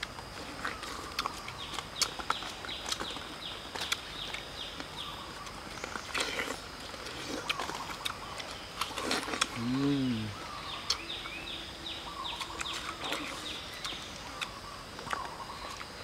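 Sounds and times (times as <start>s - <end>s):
person chewing watermelon: 0.0s - 11.4s, 12.2s - 16.0s.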